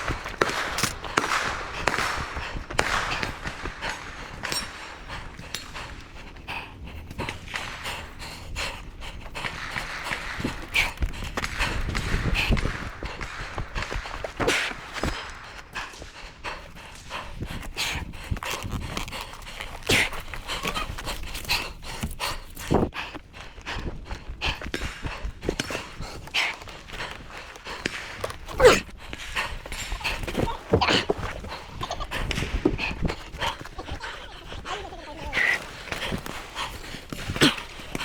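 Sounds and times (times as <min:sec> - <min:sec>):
footsteps: 0:00.0 - 0:38.0
person breathing hard: 0:00.0 - 0:38.0.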